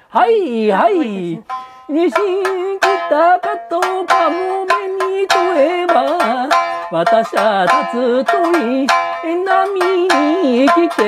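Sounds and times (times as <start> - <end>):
person singing folk melody: 0.0 - 11.0
plucked shamisen notes: 0.8 - 11.0.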